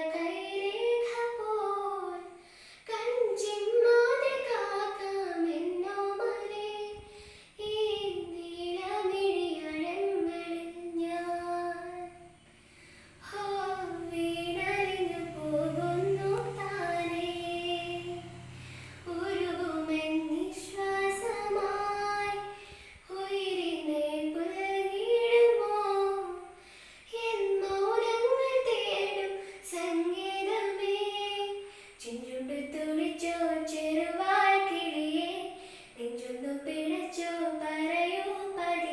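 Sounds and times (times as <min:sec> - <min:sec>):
girl singing unaccompanied: 0:00.0 - 0:38.9.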